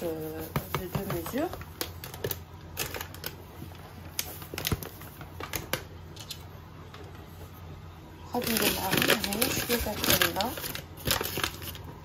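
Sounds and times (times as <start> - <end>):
soft rustling of flour: 0.0 - 12.0.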